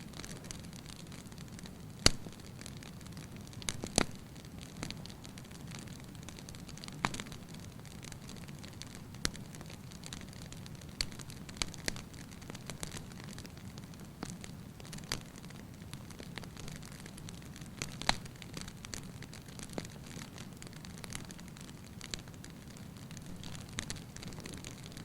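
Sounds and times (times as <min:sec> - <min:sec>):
low rumble of fire: 0:00.0 - 0:25.0
wood fire crackling and popping: 0:00.0 - 0:25.0.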